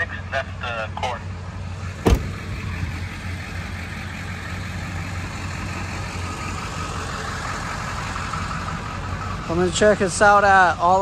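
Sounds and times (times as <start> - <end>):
vehicle engine idling: 0.1 - 11.0.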